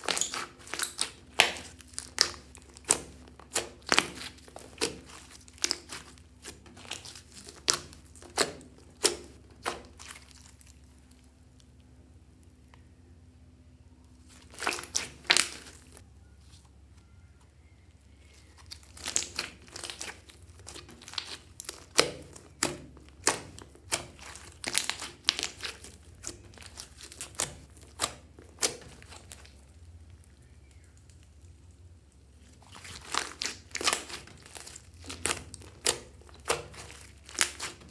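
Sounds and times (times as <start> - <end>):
sticky slime crackling and popping: 0.0 - 12.8, 14.0 - 16.0, 17.7 - 37.9.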